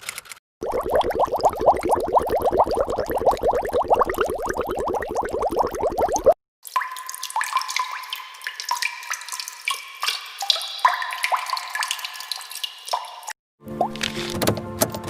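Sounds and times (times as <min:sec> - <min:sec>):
water dripping into water: 0:00.6 - 0:14.0.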